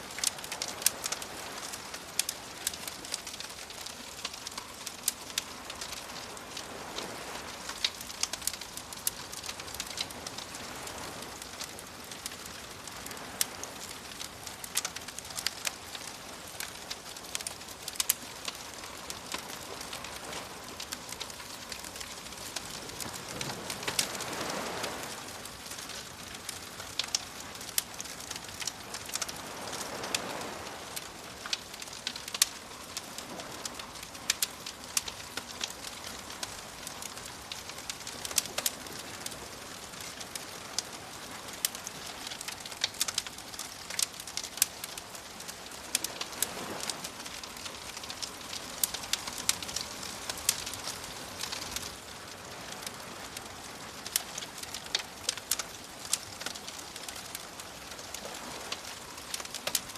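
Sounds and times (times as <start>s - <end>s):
waves washing in: 0.0s - 59.9s
wood fire crackling: 0.0s - 59.9s.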